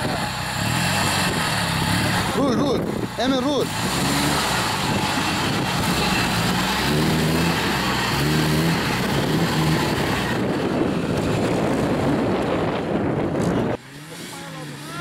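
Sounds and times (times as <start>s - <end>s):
engine revving in spurts: 0.0s - 15.0s
heavy rush of noise: 0.0s - 15.0s.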